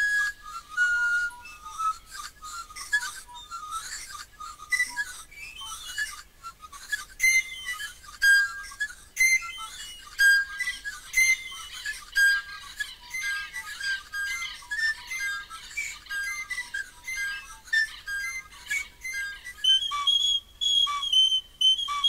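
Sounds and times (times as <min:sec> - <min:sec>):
pan flute shrill whistled notes: 0:00.0 - 0:22.0.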